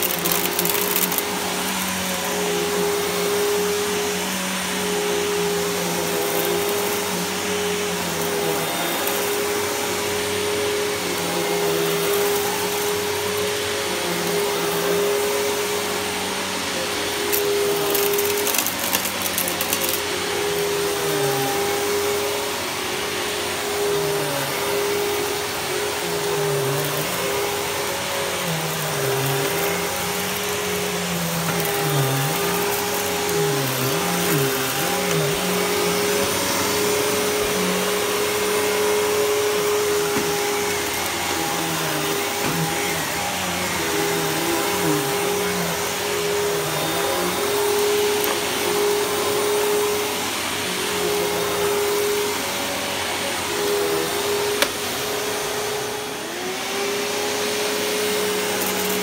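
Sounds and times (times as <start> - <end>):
vacuum cleaner running on carpet: 0.0 - 59.0.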